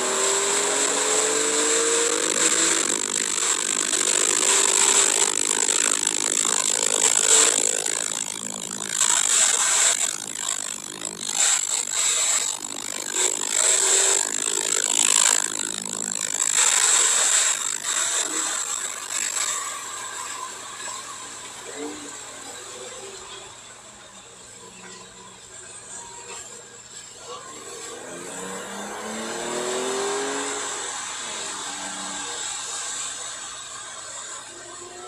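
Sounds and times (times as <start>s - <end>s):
car engine: 0.0s - 35.0s.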